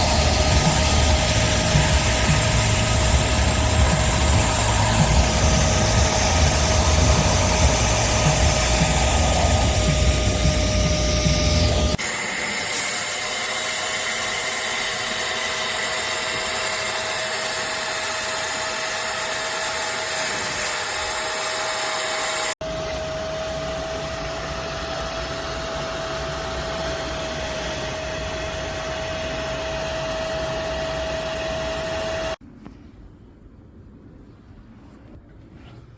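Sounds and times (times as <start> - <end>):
spot cleaner suction motor whine: 0.0 - 32.4.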